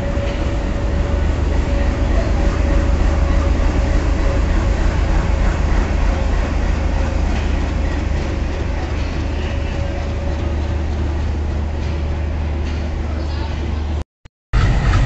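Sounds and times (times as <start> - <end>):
locomotive diesel engine rumbling: 0.0 - 14.0.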